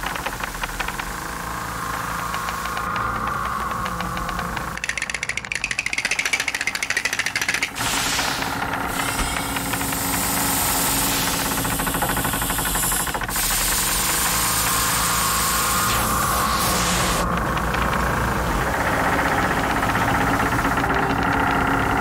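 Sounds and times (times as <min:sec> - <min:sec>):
fast mechanical rattle: 0:00.0 - 0:22.0
machine running: 0:00.0 - 0:22.0.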